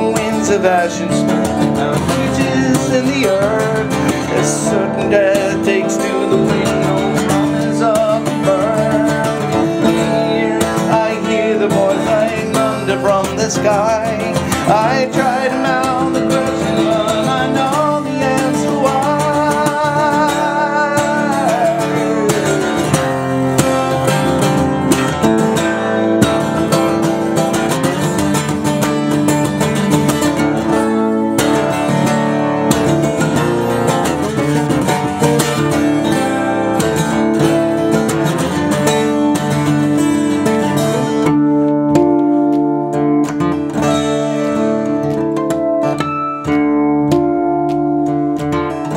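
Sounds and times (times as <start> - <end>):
twelve-string acoustic guitar strumming: 0.0 - 48.9.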